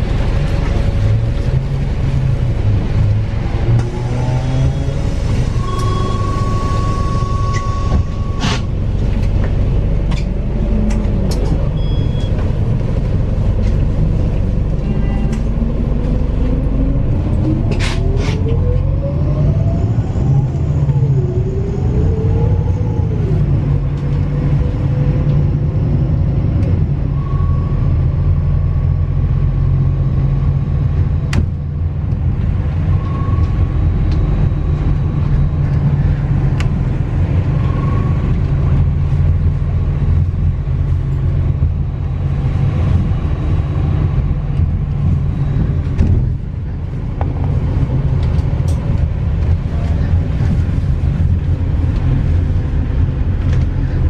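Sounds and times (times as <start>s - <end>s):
bus engine rumble and whine: 0.0s - 54.0s.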